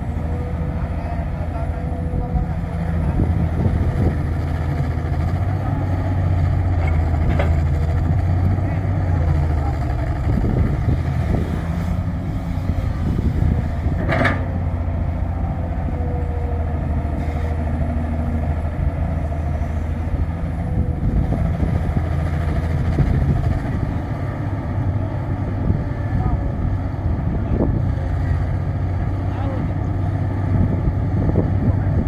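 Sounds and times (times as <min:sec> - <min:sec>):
excavator diesel engine droning: 0:00.0 - 0:32.0.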